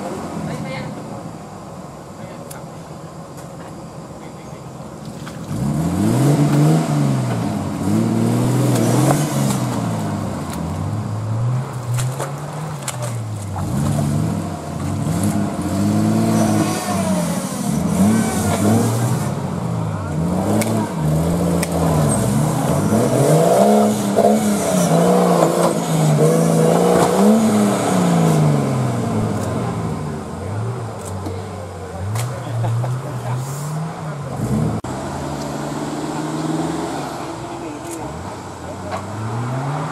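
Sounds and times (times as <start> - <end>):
off-road vehicle engine revving: 4.1 - 39.9.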